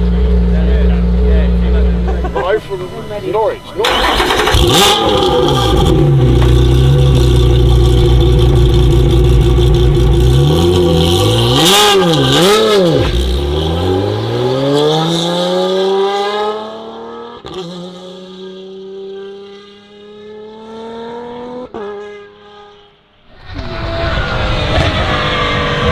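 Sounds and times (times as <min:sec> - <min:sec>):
race car engine idling and revving: 0:00.0 - 0:25.9.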